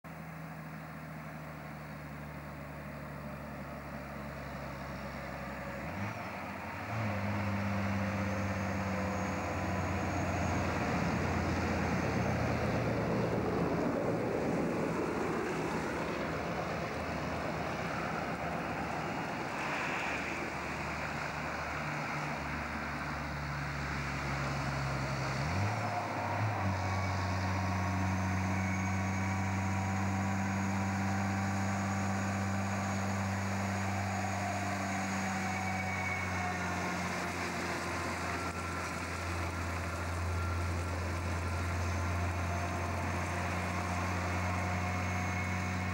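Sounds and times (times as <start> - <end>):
truck diesel engine shifting gears: 0.0 - 45.9.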